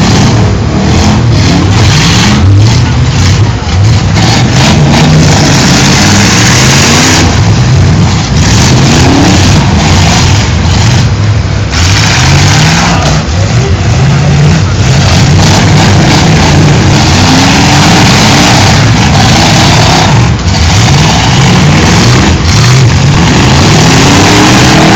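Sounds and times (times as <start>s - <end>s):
car engines revving hard: 0.0s - 24.9s
loud steady noisy rush: 0.0s - 24.9s.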